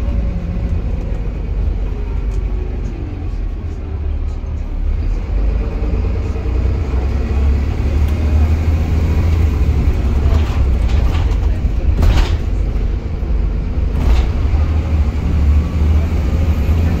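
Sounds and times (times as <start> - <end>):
bus diesel engine drone: 0.0 - 17.0
road noise: 0.0 - 17.0.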